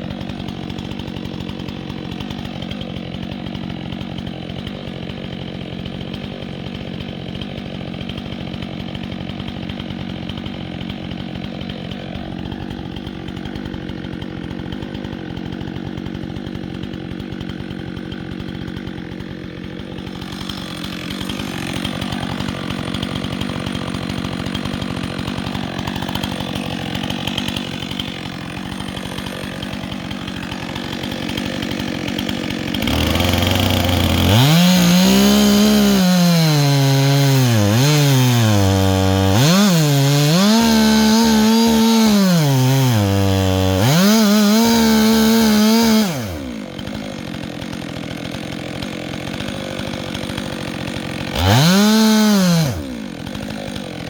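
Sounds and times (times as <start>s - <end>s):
chainsaw engine running and revving: 0.0s - 54.0s.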